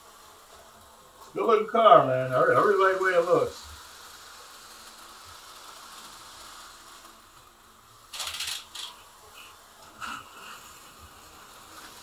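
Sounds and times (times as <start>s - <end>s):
slot cars hissing on track: 0.0s - 12.0s.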